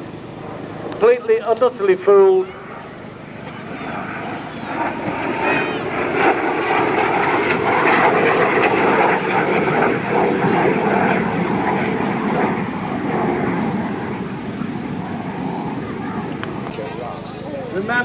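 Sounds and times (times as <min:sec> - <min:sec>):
jet engines with faint whine: 0:00.0 - 0:18.0.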